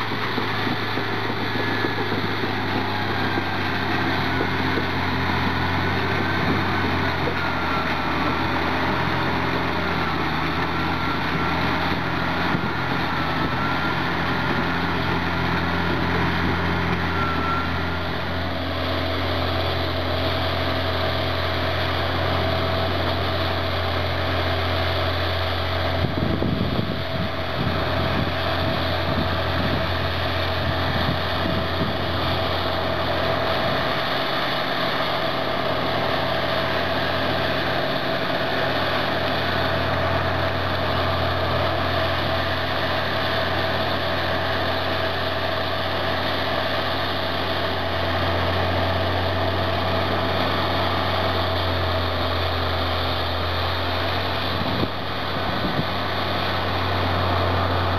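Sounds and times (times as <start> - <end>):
bulldozer diesel engine under load: 0.0 - 57.9.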